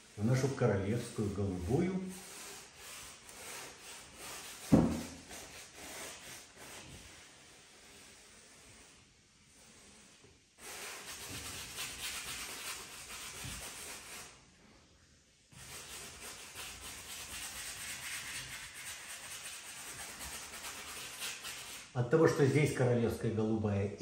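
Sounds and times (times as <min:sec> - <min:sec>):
brush scrubbing on canvas: 0:00.0 - 0:14.4, 0:15.5 - 0:22.0.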